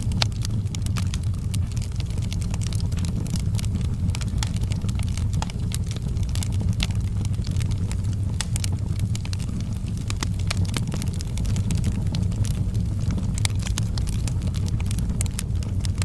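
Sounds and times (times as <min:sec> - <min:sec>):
campfire crackling and popping: 0:00.0 - 0:16.0
low rumble of flames: 0:00.0 - 0:16.0.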